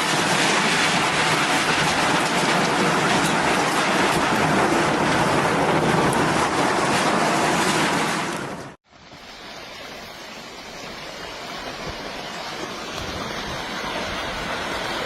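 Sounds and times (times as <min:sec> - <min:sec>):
water or debris flowing: 0:00.0 - 0:15.0.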